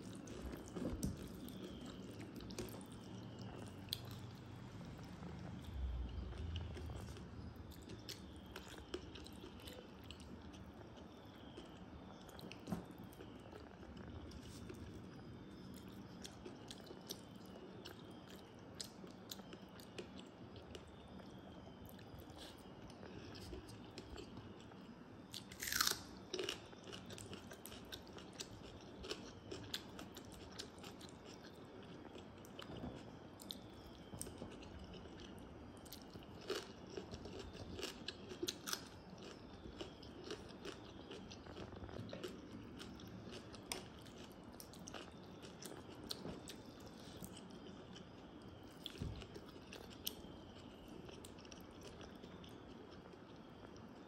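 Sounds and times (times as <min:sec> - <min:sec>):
person chewing with crunches: 0:00.0 - 0:54.0.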